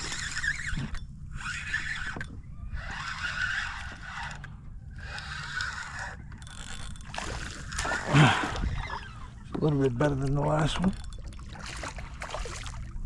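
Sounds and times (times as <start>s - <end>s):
fishing reel whirring: 0.0s - 13.0s.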